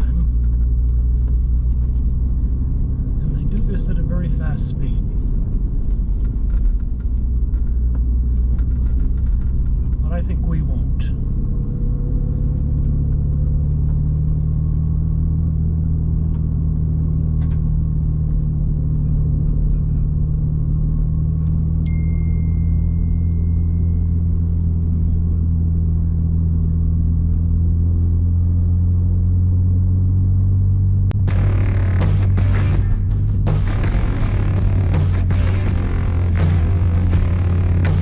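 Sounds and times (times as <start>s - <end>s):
car engine droning: 0.0s - 38.0s.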